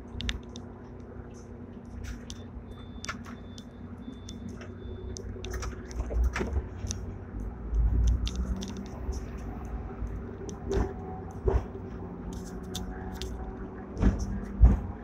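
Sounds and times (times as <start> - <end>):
tram clicks and rattles: 0.0 - 15.0
tram rumbling and humming: 0.0 - 15.0.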